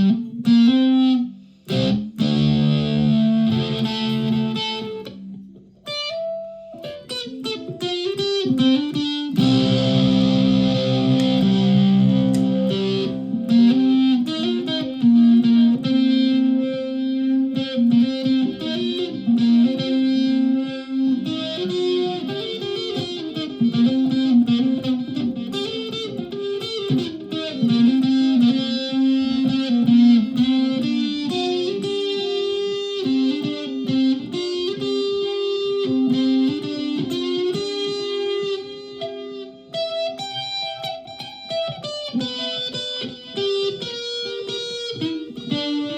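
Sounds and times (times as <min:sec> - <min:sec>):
electric ukulele playing: 0:00.0 - 0:45.9.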